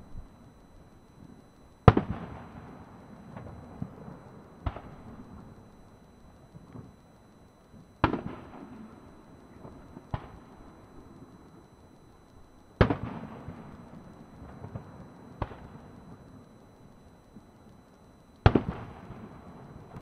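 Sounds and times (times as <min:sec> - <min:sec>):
faint firework crackles: 0:00.0 - 0:20.0.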